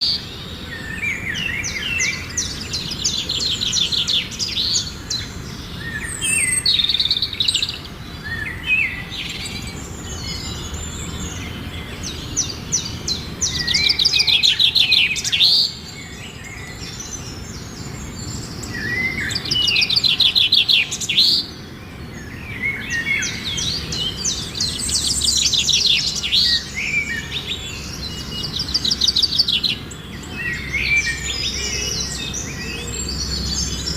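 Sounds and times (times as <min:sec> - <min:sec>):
birds singing trills and chirps: 0:00.0 - 0:33.9.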